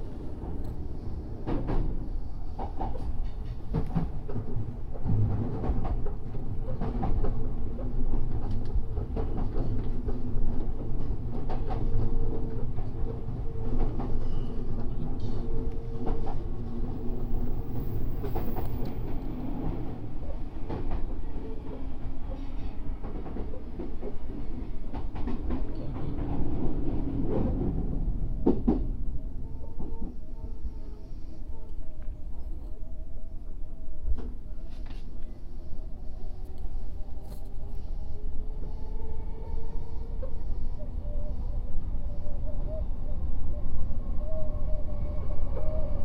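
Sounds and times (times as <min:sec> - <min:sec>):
train rumble and hum: 0:00.0 - 0:46.0.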